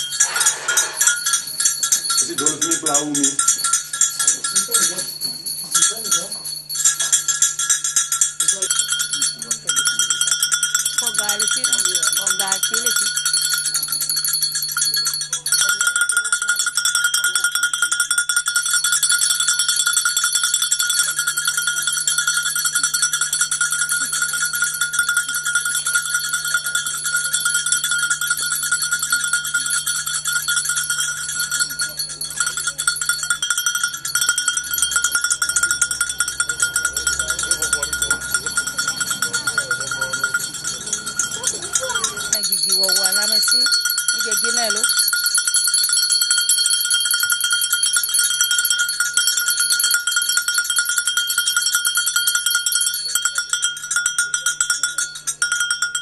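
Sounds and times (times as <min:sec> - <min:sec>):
metal bell ringing rapidly: 0:00.0 - 0:56.0.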